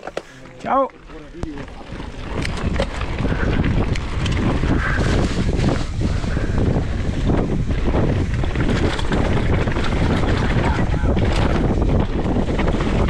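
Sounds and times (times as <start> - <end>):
tyres rolling over dirt: 0.0 - 13.0
wind rushing over microphone: 0.6 - 13.0
bike knocks and rattles: 1.1 - 13.0.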